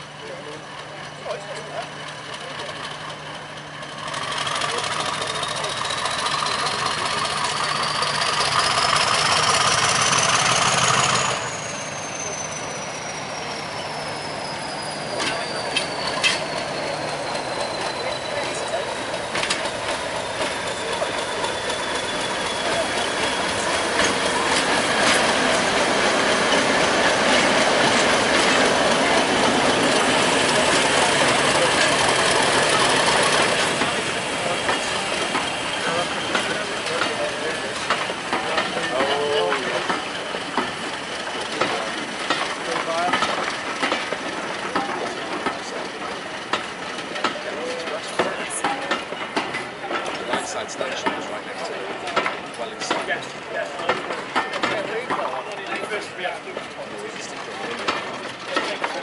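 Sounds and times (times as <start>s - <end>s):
diesel locomotive engine working hard: 0.0s - 59.0s
wheels clattering over rails: 0.0s - 59.0s.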